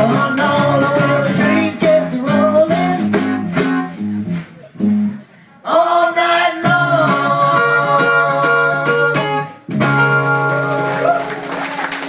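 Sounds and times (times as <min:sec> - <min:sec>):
acoustic guitars strumming: 0:00.0 - 0:11.5.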